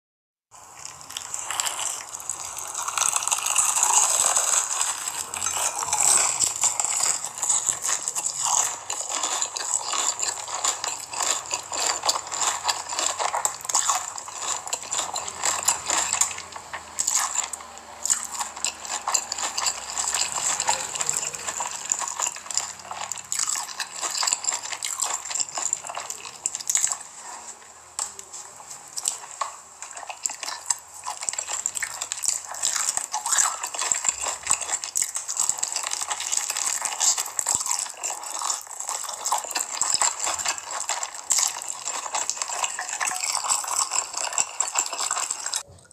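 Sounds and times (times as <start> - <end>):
crunching and chewing fried chicken: 0.5 - 45.9
wet mouth sounds: 0.6 - 45.9.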